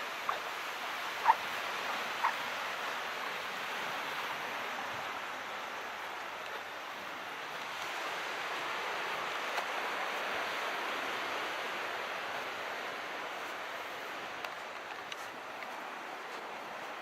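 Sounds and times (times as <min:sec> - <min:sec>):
waves washing in: 0:00.0 - 0:17.0.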